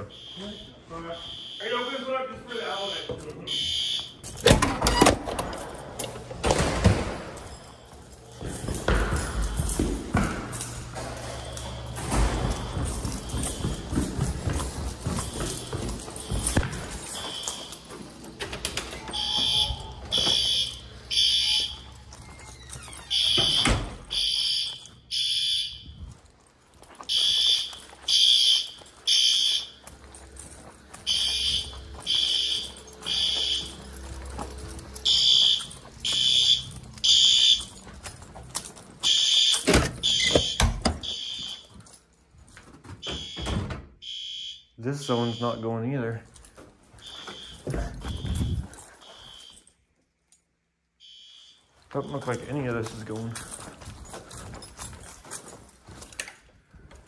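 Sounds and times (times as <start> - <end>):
fire alarm horns honking: 0.0 - 5.4, 7.4 - 26.2, 27.1 - 37.8, 38.6 - 42.0, 43.0 - 46.2, 47.0 - 49.7, 51.0 - 53.6.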